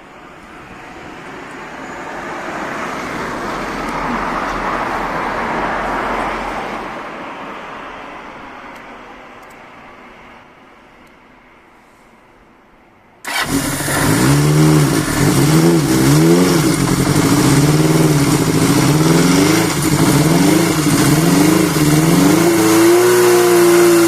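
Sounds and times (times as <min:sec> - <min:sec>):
road vehicle passing: 0:00.0 - 0:10.8, 0:13.2 - 0:24.0.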